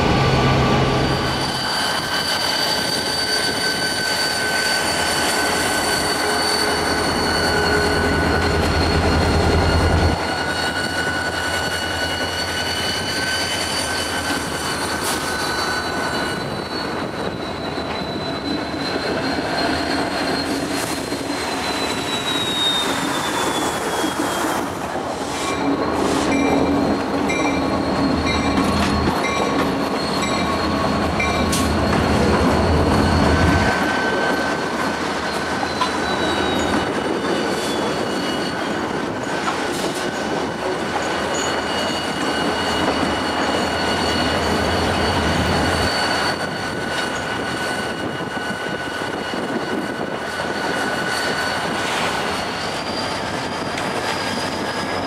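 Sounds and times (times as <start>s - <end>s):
train wheels squealing: 0.1s - 55.0s.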